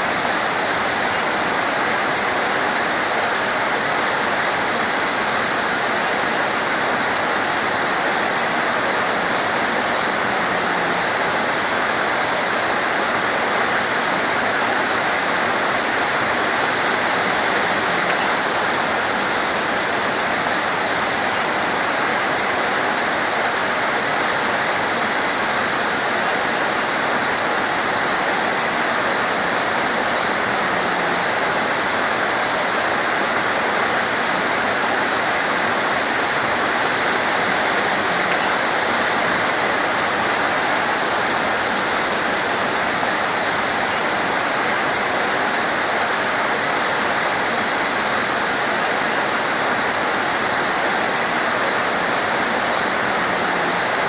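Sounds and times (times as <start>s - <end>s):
heavy torrential rain: 0.0s - 54.0s.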